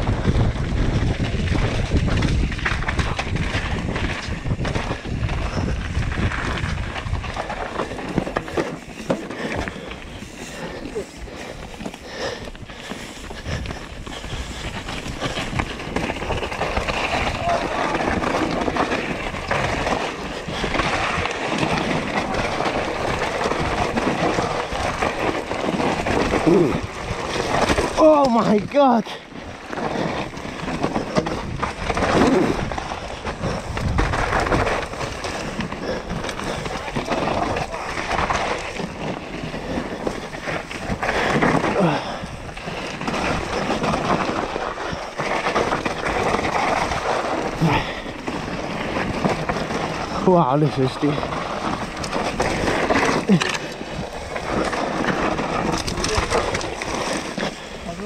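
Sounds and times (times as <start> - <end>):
bike clattering and rattling: 0.0 - 58.0
tyres roaring on trail: 0.0 - 58.0
wind rush on microphone: 0.0 - 58.0.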